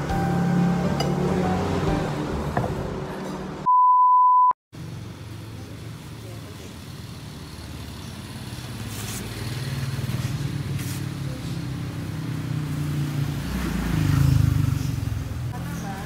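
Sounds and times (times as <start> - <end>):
vehicle engine passing: 0.0 - 3.7, 4.8 - 16.0.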